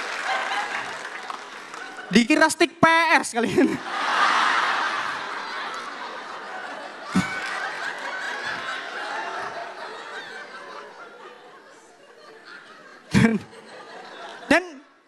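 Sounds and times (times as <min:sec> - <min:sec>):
studio audience laughing: 0:00.0 - 0:02.1, 0:03.4 - 0:15.0.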